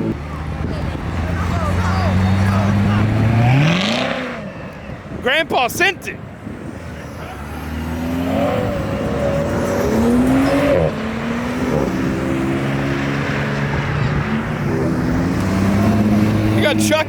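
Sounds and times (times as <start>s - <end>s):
car engine revving: 0.0s - 5.2s, 6.4s - 17.0s.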